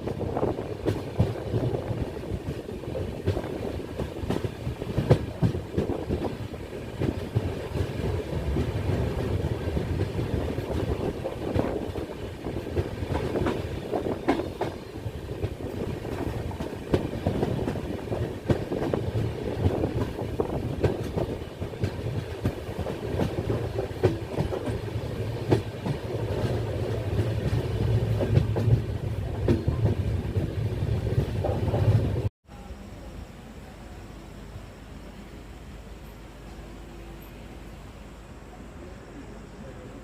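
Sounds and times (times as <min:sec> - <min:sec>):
clickety-clack of rail joints: 0:00.0 - 0:32.3
train wheels rumbling on track: 0:00.0 - 0:32.3.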